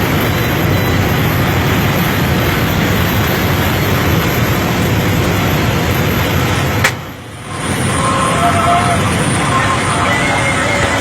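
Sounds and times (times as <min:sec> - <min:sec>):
airplane cabin rushing noise: 0:00.0 - 0:11.0.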